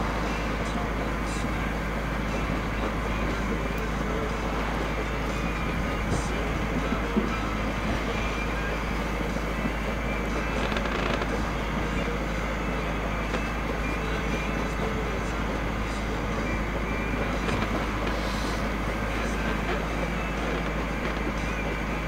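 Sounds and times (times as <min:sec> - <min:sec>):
boat engine rumble: 0:00.0 - 0:22.0.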